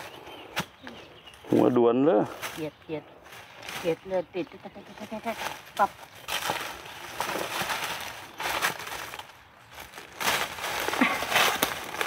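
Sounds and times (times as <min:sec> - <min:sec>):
dry leaves crunching and rustling: 0:00.0 - 0:12.0.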